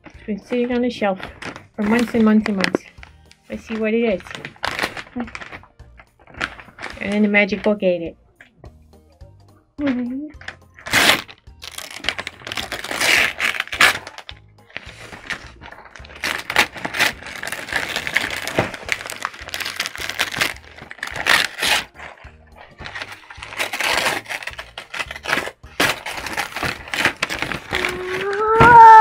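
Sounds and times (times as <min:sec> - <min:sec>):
background music: 0:00.0 - 0:29.0
wrapping paper ripping: 0:01.2 - 0:07.6, 0:10.4 - 0:29.0.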